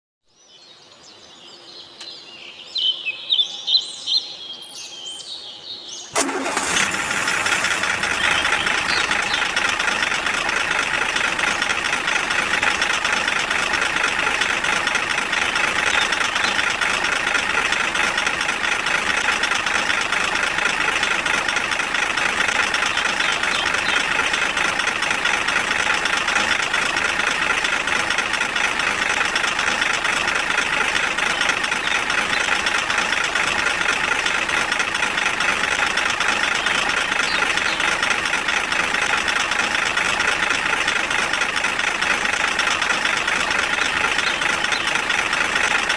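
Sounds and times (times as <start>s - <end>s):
engine-like running sound: 6.2s - 45.9s.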